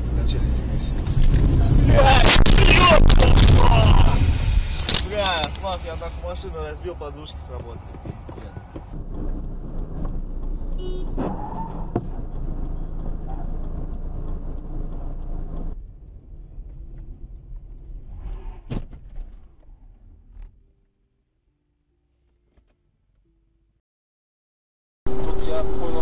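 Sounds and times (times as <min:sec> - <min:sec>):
car engine and road noise: 0:00.0 - 0:20.7, 0:25.1 - 0:26.0.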